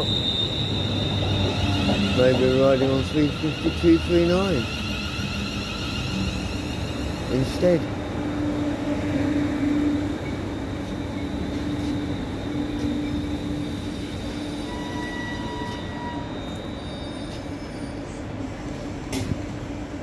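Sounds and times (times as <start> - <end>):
brake squeals: 0.0 - 7.9, 8.8 - 18.4.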